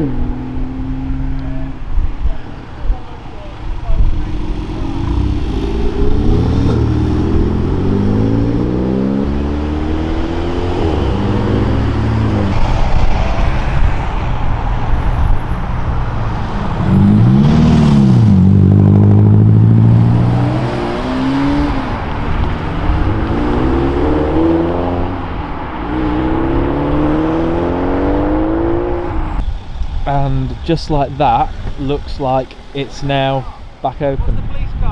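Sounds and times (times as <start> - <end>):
car revving hard passing by: 0.0 - 33.8
cars accelerating and shifting gears: 0.0 - 33.9.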